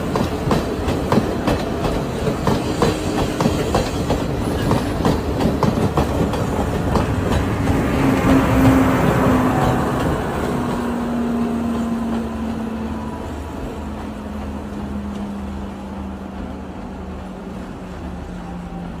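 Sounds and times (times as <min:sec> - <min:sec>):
low train rumble: 0:00.0 - 0:19.0
train engine drone: 0:00.0 - 0:19.0.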